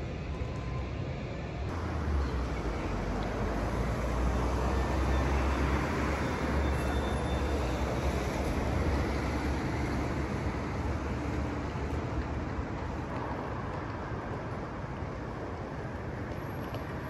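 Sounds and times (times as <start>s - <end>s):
road noise hiss: 0.0s - 17.0s.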